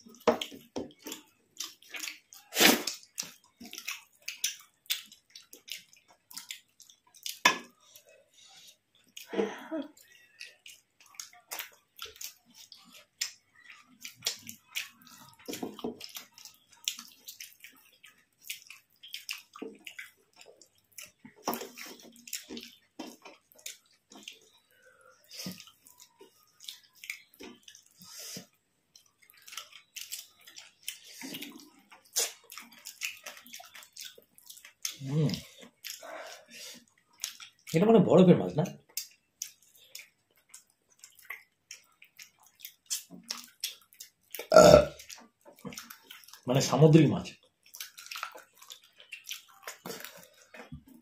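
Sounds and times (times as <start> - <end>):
wet chewing and lip smacks: 0.0 - 37.9, 38.6 - 46.6, 47.3 - 51.0.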